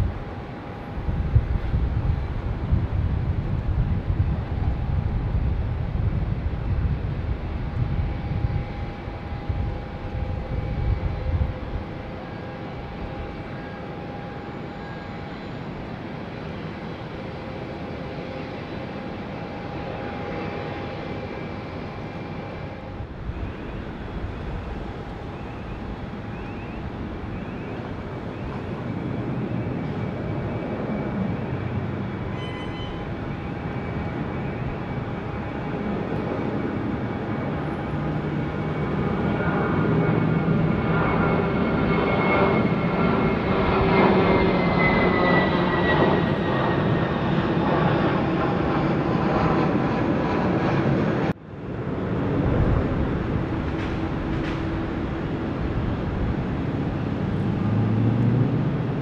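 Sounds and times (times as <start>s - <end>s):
distant jet engine rumble: 0.0s - 59.0s
steady jet noise with faint whine: 0.0s - 59.0s.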